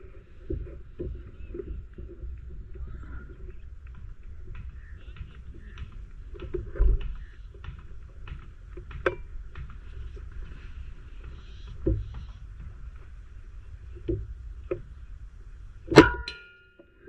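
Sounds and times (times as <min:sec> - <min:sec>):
low wind rumble: 0:00.0 - 0:16.1.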